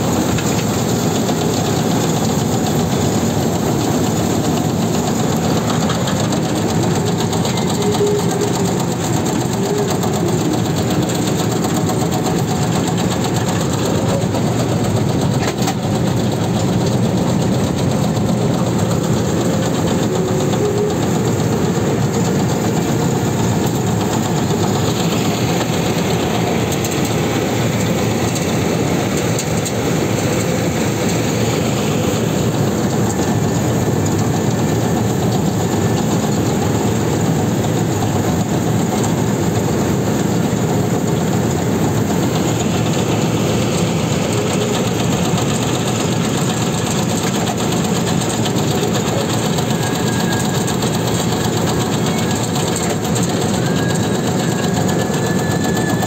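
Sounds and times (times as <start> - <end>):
harvester engine running: 0.0 - 56.0.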